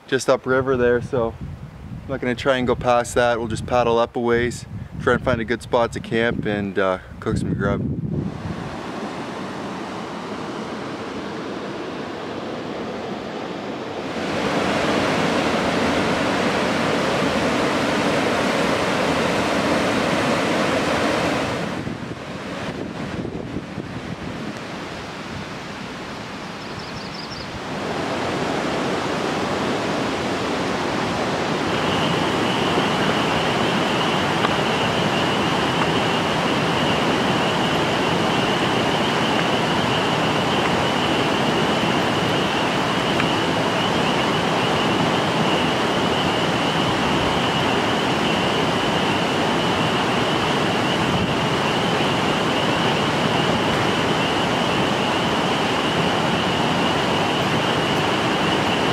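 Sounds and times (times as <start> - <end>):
high-pitched whine: 8.2 - 25.2, 26.0 - 58.9
river rapids rushing: 8.3 - 26.6, 27.5 - 58.9.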